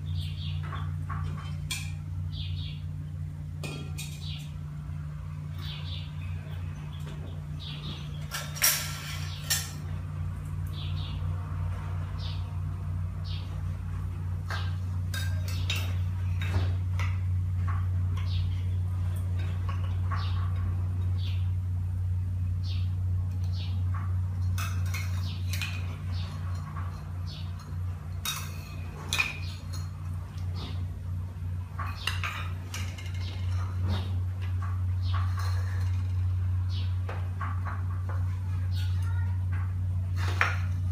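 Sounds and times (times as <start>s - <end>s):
small birds chirping: 0.0s - 40.9s
steady low hum: 0.0s - 40.9s.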